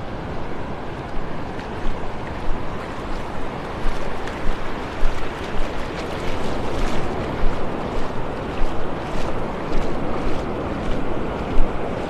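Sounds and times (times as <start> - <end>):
surf roaring: 0.0 - 12.0
wind buffeting microphone: 0.0 - 12.0.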